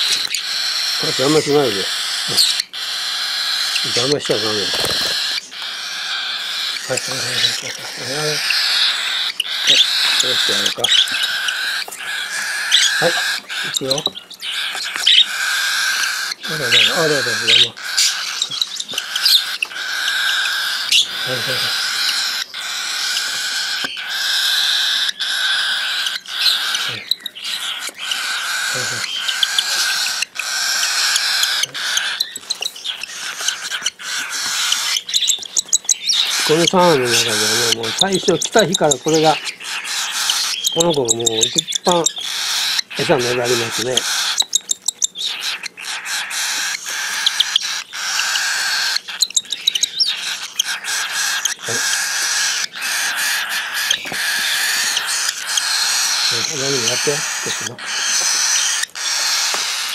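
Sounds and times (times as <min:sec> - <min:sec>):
chicks begging hoarse calling: 0:00.0 - 0:59.9.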